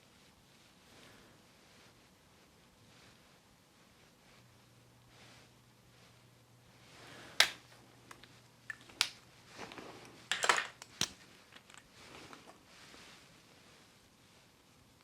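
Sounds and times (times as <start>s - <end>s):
soft rustling: 0.1s - 10.3s, 11.2s - 15.0s.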